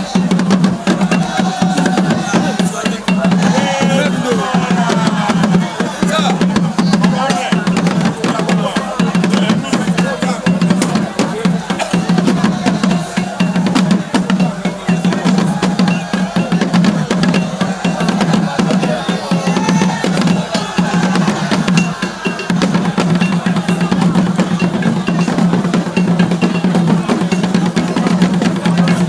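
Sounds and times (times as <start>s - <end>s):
drum-led music: 0.0s - 29.0s.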